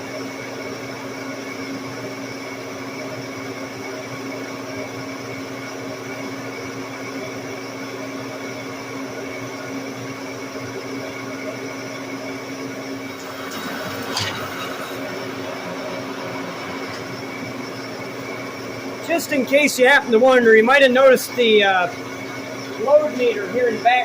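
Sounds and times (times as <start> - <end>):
lathe running with high whine: 0.0 - 24.0.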